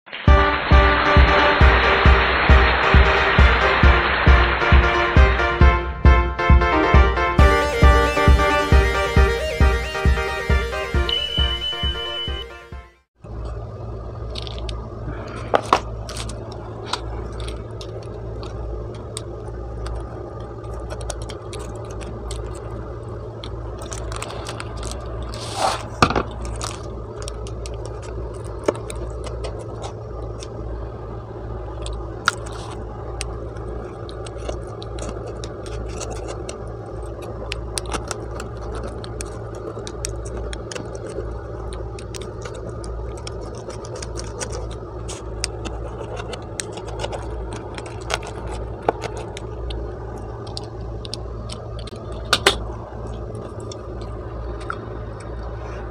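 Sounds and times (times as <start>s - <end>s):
steady low hum: 0.1s - 55.9s.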